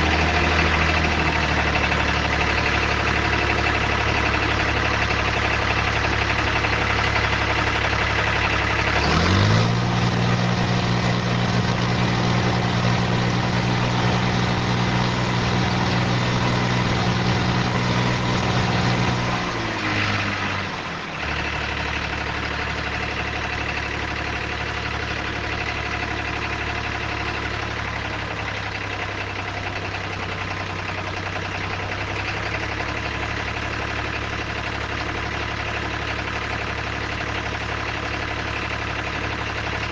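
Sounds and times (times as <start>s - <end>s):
tractor engine idling and revving: 0.0s - 39.9s.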